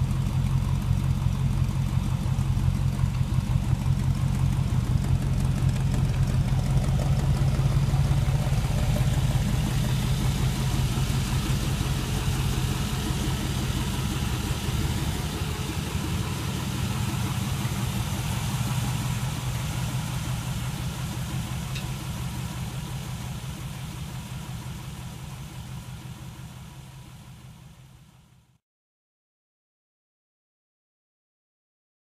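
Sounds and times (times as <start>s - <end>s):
engine idling: 0.0s - 28.6s.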